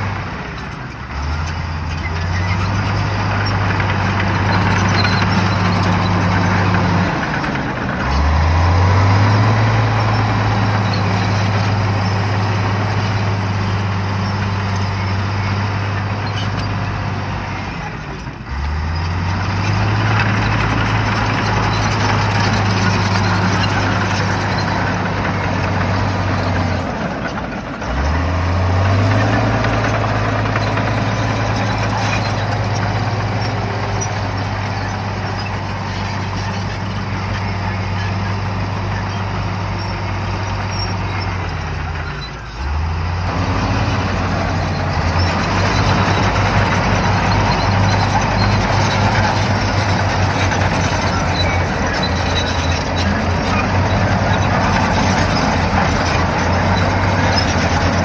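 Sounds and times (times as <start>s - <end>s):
bulldozer engine working under load: 0.0s - 58.0s.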